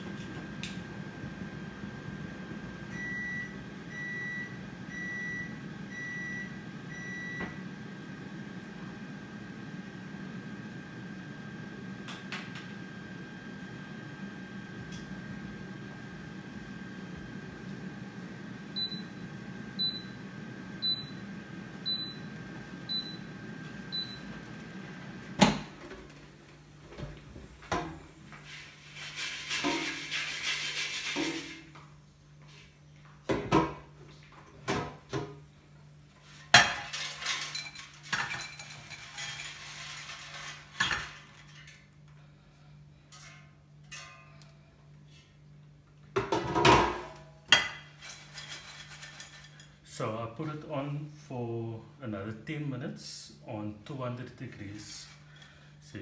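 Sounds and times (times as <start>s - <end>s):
air fryer fan humming: 0.0s - 32.4s, 33.0s - 56.0s.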